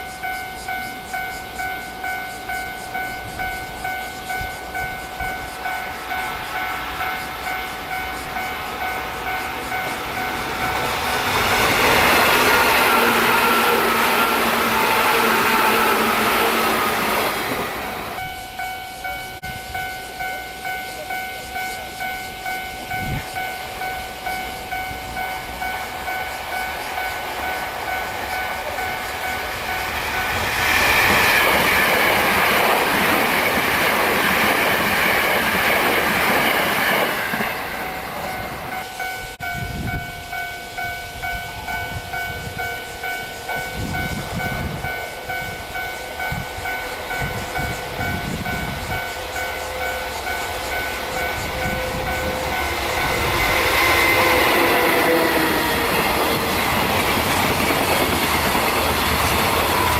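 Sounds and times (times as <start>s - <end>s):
level-crossing warning bell: 0.0s - 59.9s
train rushing past: 0.0s - 59.9s.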